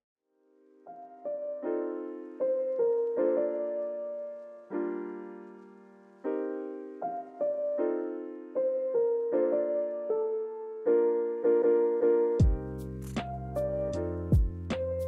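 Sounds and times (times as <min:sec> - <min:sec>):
piano playing slow chords: 0:00.5 - 0:15.0.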